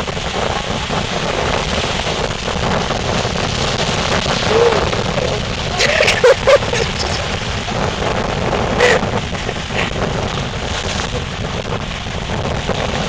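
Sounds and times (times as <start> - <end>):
storm surf on beach: 0.0 - 13.0
strong wind on microphone: 0.0 - 13.0.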